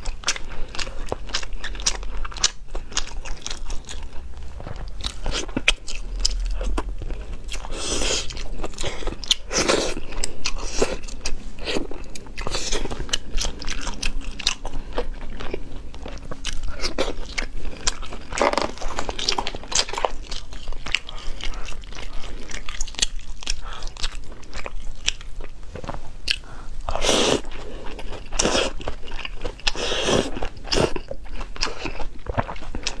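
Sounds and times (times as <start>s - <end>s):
close chewing and crunching: 0.0s - 33.0s.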